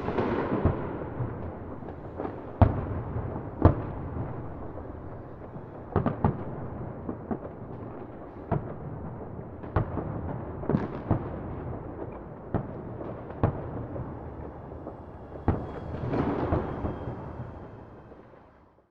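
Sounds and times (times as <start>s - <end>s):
fireworks rumbling and banging: 0.0s - 18.8s.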